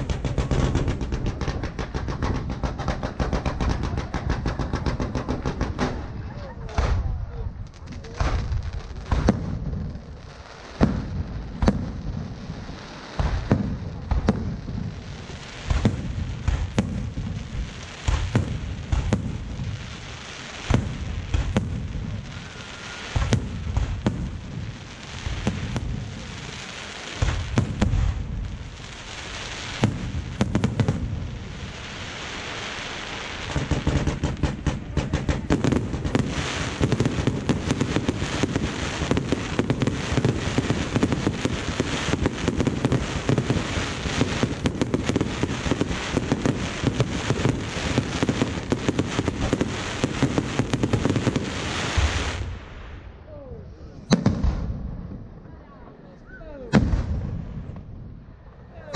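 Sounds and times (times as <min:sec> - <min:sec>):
fireworks crackling: 0:00.0 - 0:55.9
fireworks bangs and booms: 0:00.0 - 0:58.9.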